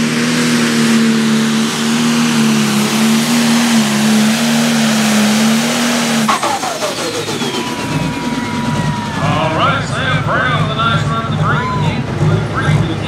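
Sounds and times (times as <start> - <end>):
diesel engine at full throttle: 0.0 - 13.0
turbo whine winding down: 0.0 - 13.0.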